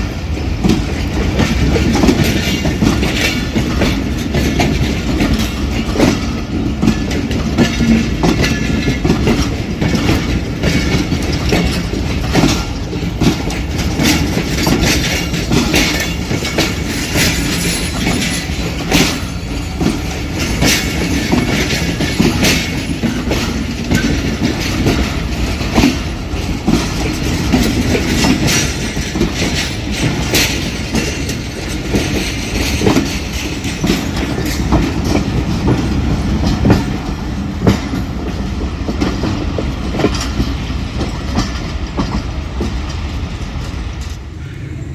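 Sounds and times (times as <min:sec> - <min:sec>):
wheel clicks over rail joints: 0:00.0 - 0:44.2
train coaches rumbling past: 0:00.0 - 0:44.9.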